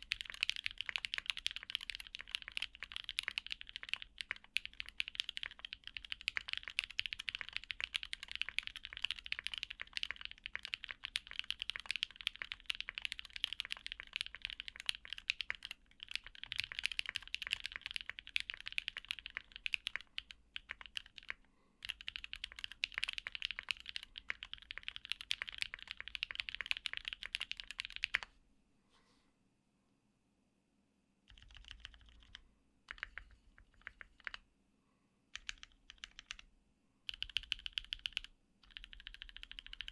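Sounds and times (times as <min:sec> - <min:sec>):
typing on mechanical keyboard: 0:00.0 - 0:28.3, 0:31.3 - 0:34.4, 0:35.3 - 0:36.5, 0:37.1 - 0:39.9.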